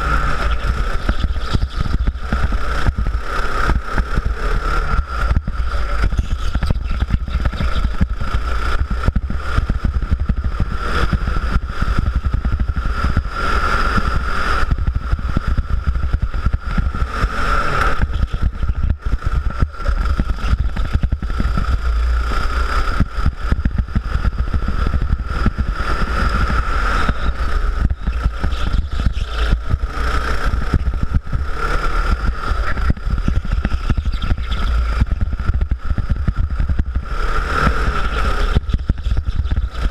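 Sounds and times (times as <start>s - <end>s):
go-kart engine running: 0.0s - 39.9s
heavy low rumble: 0.0s - 39.9s.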